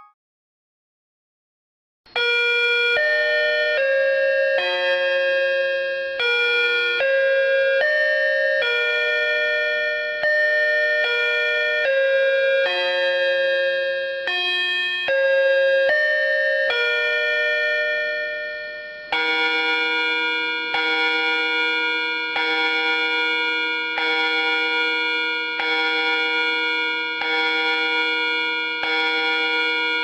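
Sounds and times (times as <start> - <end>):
phone ringtone melody: 2.9 - 28.2.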